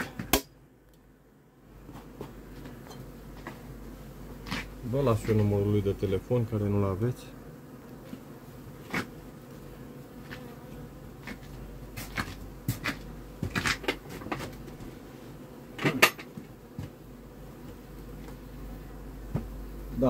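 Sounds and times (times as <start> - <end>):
honeybees humming: 0.0 - 20.0.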